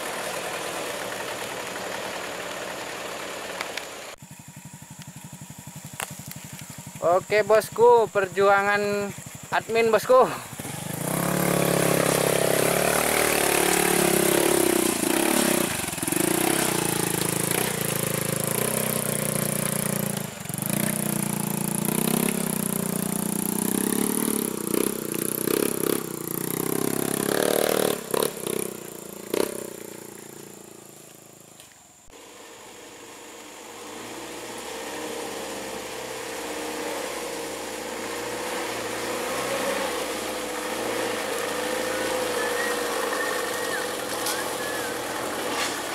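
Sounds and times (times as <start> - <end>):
steady engine drone: 0.0 - 45.9.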